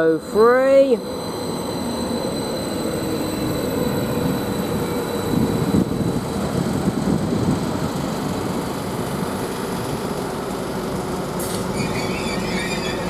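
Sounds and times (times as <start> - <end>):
train rumble with faint whine: 0.0 - 13.0.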